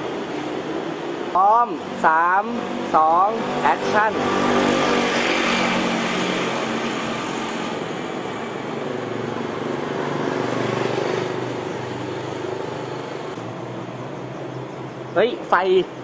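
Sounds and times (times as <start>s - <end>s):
engine running: 0.0s - 16.0s
street traffic: 0.0s - 16.0s.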